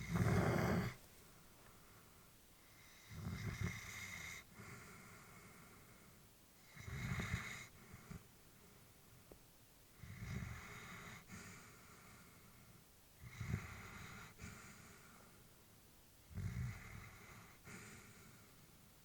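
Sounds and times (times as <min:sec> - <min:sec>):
dog breathing in sleep: 0:00.0 - 0:01.0, 0:01.7 - 0:08.9, 0:10.0 - 0:15.4, 0:16.3 - 0:18.8.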